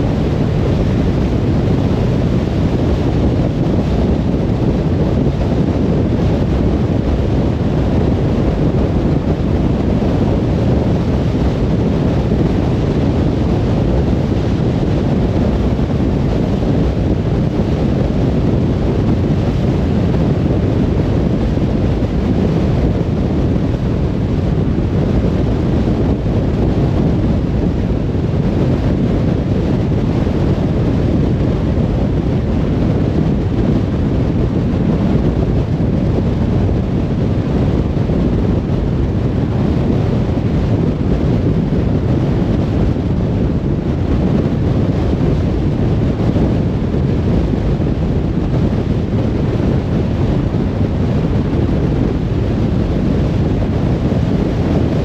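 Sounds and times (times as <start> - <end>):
tyre and road noise rumble: 0.0 - 55.0.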